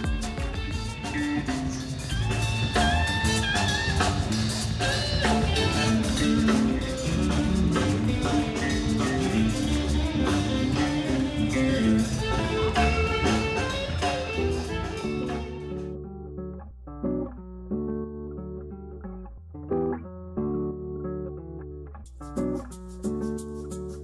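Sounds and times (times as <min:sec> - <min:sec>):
guitar music with drum beat: 0:00.0 - 0:24.0.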